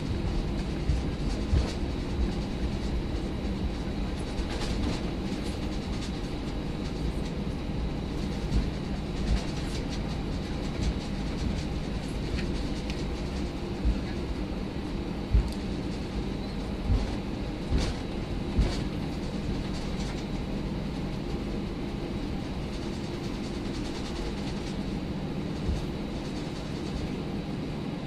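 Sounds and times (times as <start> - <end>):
airplane cabin engine noise: 0.0 - 28.0.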